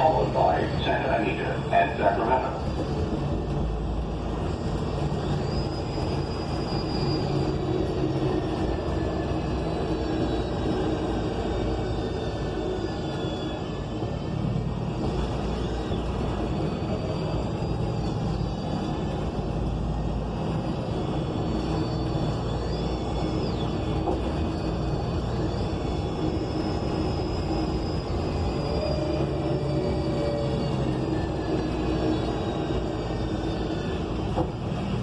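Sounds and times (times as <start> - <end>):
faint high whines: 3.4 - 35.0.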